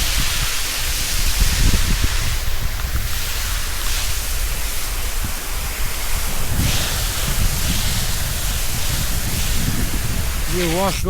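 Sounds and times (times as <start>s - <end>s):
hose water spraying onto concrete: 0.0s - 11.0s.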